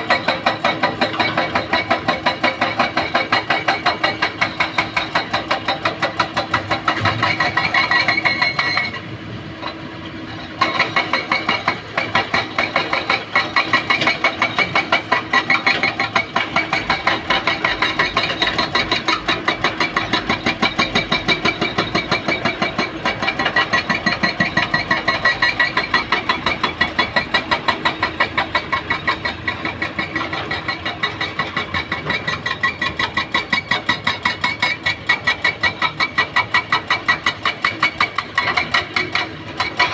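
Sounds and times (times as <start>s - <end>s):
excavator diesel engine pulsing: 0.0s - 39.9s.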